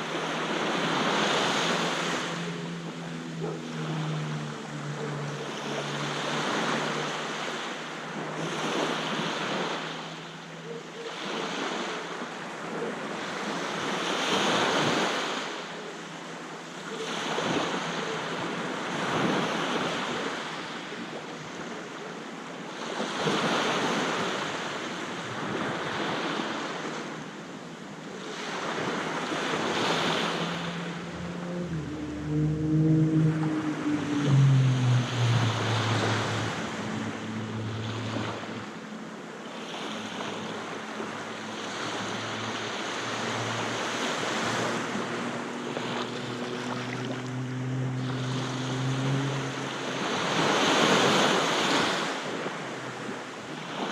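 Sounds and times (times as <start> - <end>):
sea waves washing onto beach: 0.0 - 53.9.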